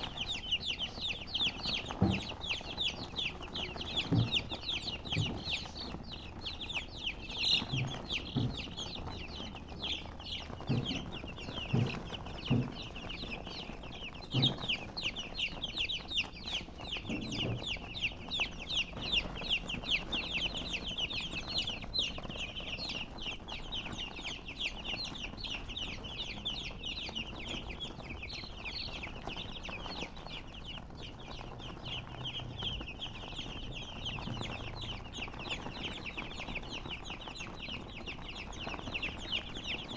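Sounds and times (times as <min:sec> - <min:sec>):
chicks chirping: 0:00.0 - 0:39.9
hen clucking: 0:00.0 - 0:39.9.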